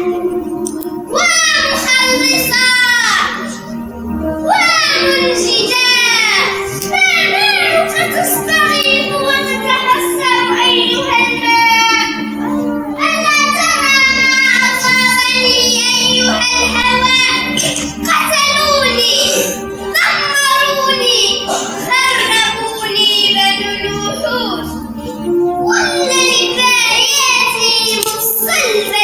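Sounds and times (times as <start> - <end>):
children singing: 0.0 - 29.0
instrumental backing music: 0.0 - 29.0.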